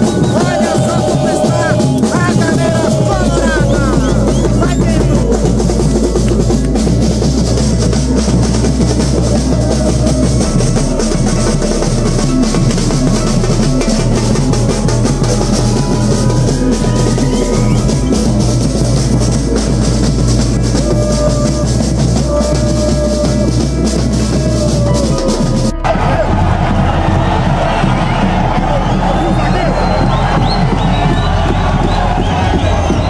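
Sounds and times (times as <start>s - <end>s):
smaller drums played with sticks: 0.0s - 33.0s
surdo bass drums beating: 0.0s - 33.0s.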